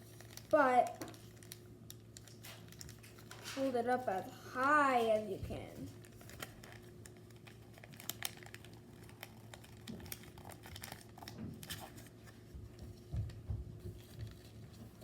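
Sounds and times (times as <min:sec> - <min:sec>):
paper rustling and crinkling: 0:00.0 - 0:04.2, 0:04.9 - 0:15.0
faint steady hum: 0:00.0 - 0:15.0.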